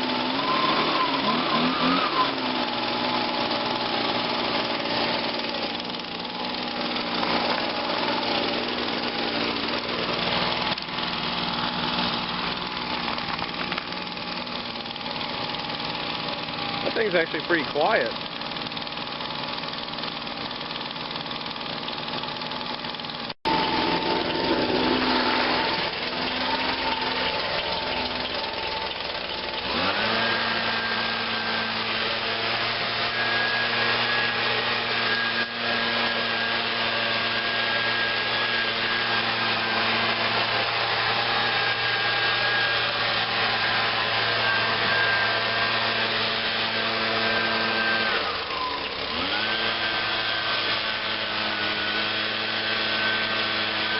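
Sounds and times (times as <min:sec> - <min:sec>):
leaf blower engine: 0:00.0 - 0:53.9.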